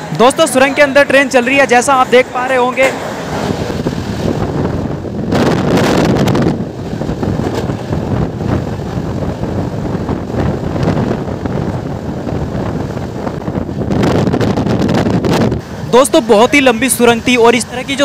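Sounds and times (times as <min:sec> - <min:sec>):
train wheel and rail rush: 0:00.0 - 0:18.0
wind buffeting microphone: 0:03.0 - 0:18.0.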